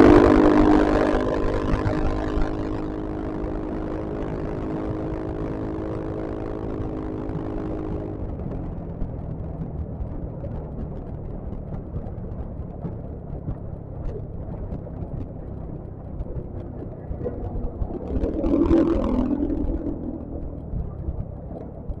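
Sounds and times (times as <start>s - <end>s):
scooter engine: 0.0s - 22.0s
wind rumble: 0.0s - 22.0s.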